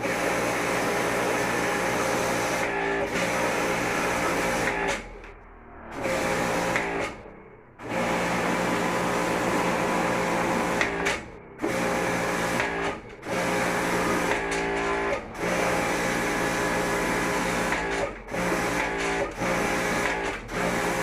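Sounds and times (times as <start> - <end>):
pressure washer running: 0.0 - 21.0.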